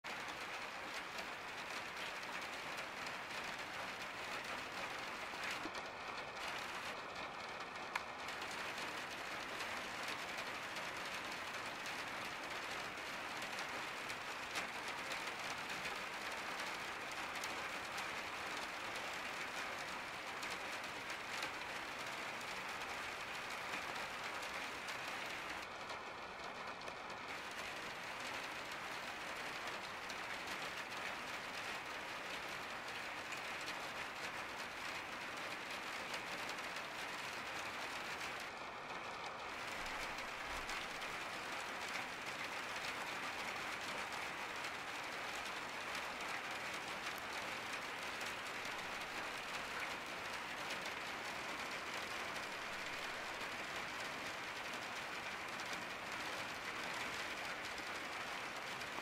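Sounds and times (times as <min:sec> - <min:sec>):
rain pattering on a skylight: 0:00.0 - 0:59.0.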